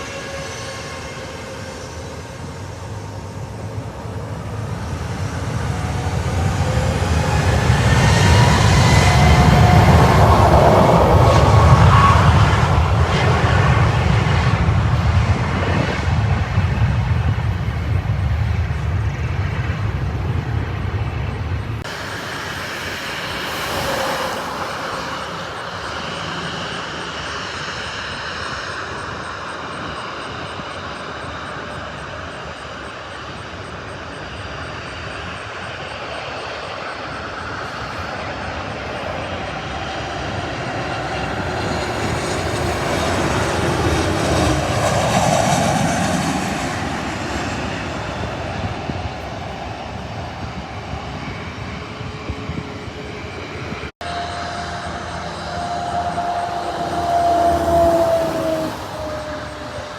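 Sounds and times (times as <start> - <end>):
jet airliner engines rumbling: 0.0 - 59.9.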